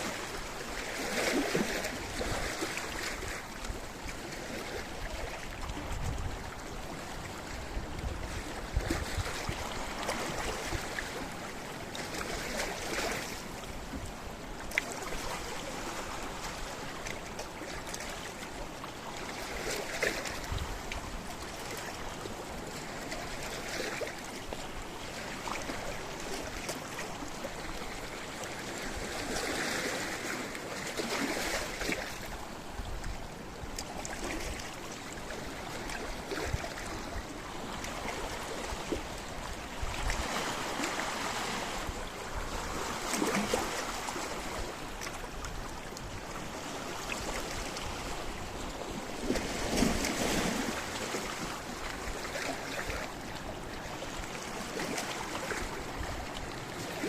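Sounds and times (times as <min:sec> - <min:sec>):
waves washing onto rocky shore: 0:00.0 - 0:57.0.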